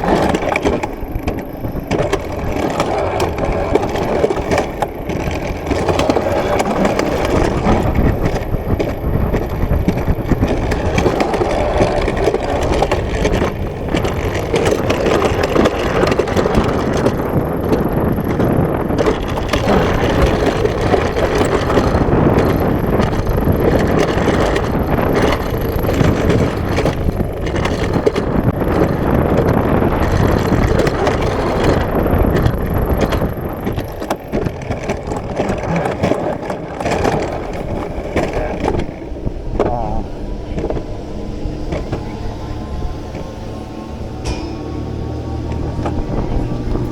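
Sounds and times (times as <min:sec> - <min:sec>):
wheels rumbling on steel rail: 0:00.0 - 0:46.9
wind on microphone: 0:00.0 - 0:46.9.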